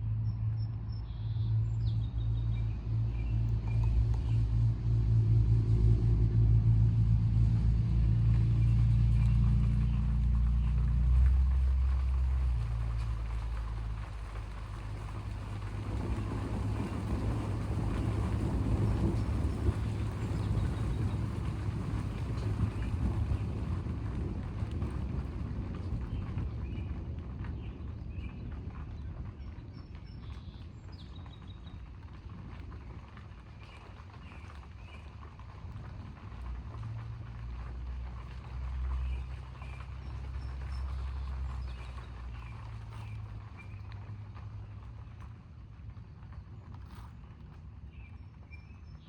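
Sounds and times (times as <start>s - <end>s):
rolling thunder rumble: 2.6s - 46.3s.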